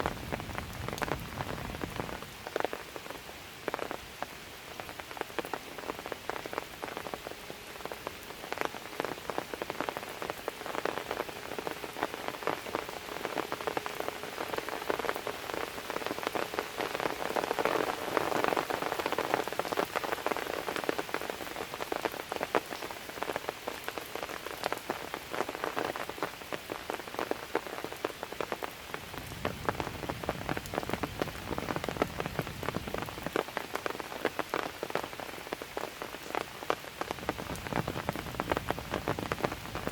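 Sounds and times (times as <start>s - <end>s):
light rain on hard surfaces: 0.0s - 39.9s.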